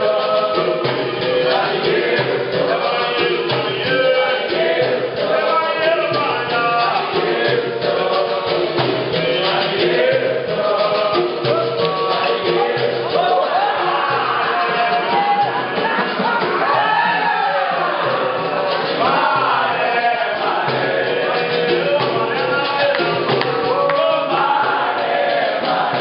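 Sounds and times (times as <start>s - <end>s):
atabaque drum: 0.0s - 26.0s
group of voices singing: 0.0s - 26.0s
pandeiro: 0.0s - 26.0s.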